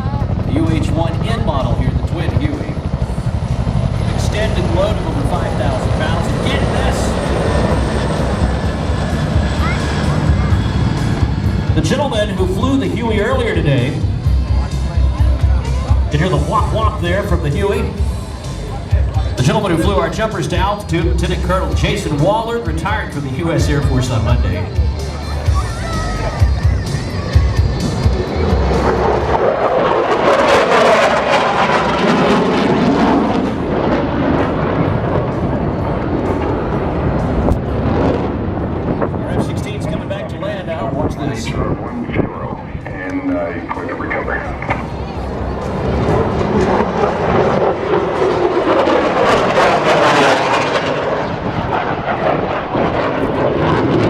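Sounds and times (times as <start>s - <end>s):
aircraft flying past: 0.0s - 54.0s.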